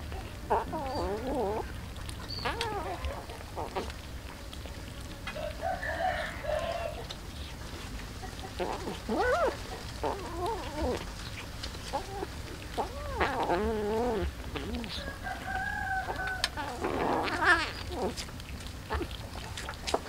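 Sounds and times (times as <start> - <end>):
faint scattered clicks: 0.0 - 5.6, 6.8 - 20.0.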